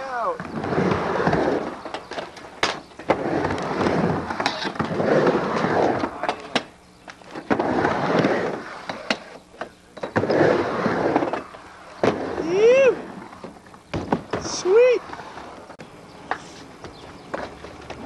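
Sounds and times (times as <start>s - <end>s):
skateboard wheels rolling on wood: 0.0s - 18.0s.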